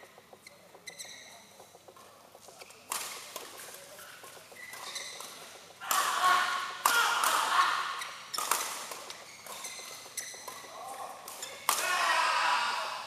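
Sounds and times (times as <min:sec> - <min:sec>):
shoes squeaking on court floor: 0:00.0 - 0:06.8, 0:07.7 - 0:11.8
rackets hitting shuttlecock: 0:01.0 - 0:12.0.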